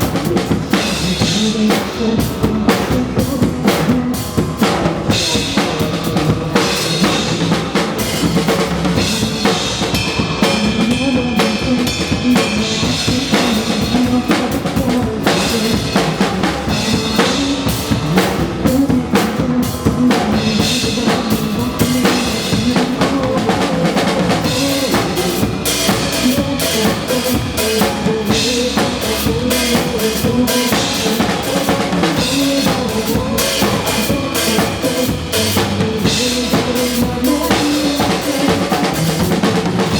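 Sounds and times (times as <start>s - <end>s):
drum kit groove: 0.0s - 39.9s
pop song backing track: 0.0s - 39.9s.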